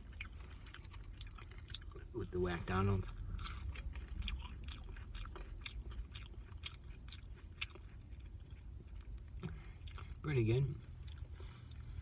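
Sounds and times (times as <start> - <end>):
chewing food with wet clicks: 0.0 - 12.0.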